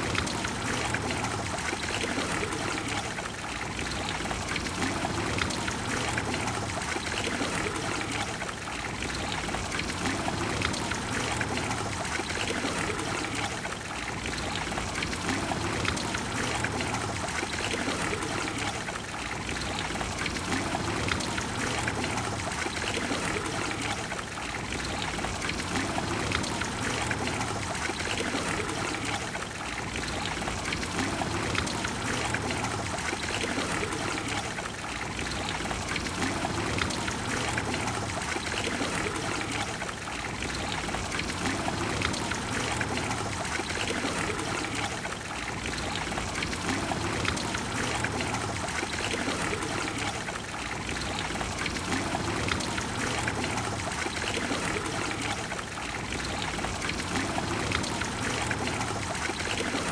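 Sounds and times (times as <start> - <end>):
fountain water splashing into basin: 0.0 - 59.9.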